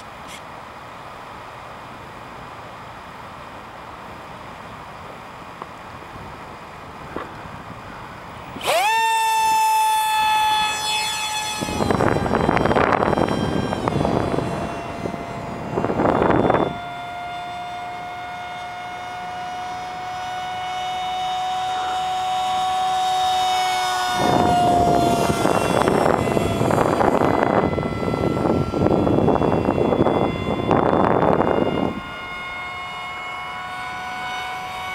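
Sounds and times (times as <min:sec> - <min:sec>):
model jet fans whining: 0:00.0 - 0:34.9.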